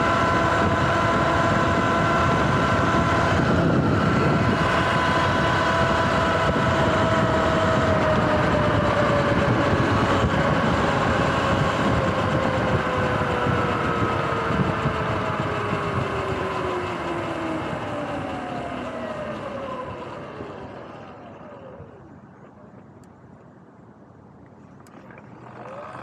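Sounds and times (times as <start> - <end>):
electric motor whine: 0.0 - 22.0
wind: 0.0 - 26.0.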